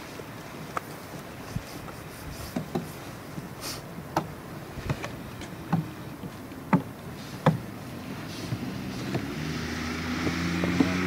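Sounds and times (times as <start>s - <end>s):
faint outdoor rush: 0.0s - 11.0s.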